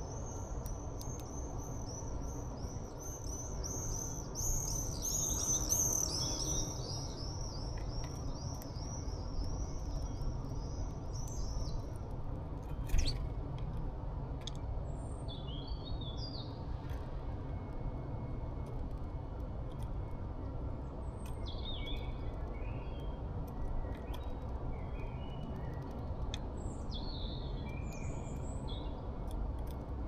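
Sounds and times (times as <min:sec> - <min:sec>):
songbirds chirping: 0:00.0 - 0:17.7, 0:19.8 - 0:29.9
low background rumble: 0:00.0 - 0:30.0.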